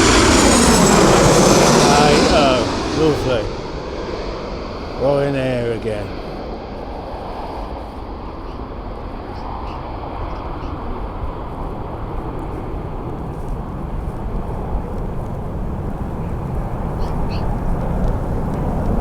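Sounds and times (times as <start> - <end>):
jet airliner engine rumble: 0.0 - 19.0.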